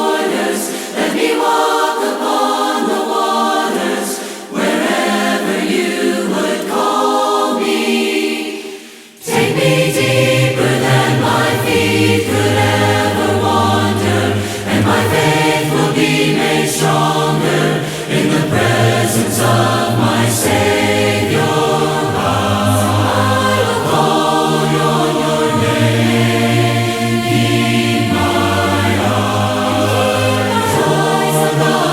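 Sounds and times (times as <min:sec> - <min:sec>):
choir singing in harmony: 0:00.0 - 0:31.9.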